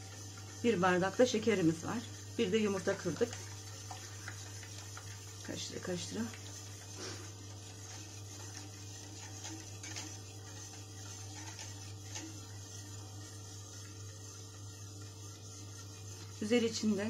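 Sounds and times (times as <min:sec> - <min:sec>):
steady low hum: 0:00.0 - 0:17.0
utensil scraping a metal pot: 0:00.0 - 0:17.0.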